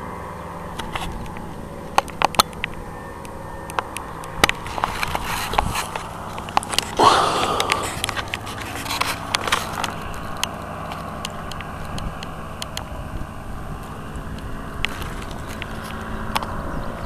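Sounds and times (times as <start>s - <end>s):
distant paramotor engine drone: 0.0s - 17.0s.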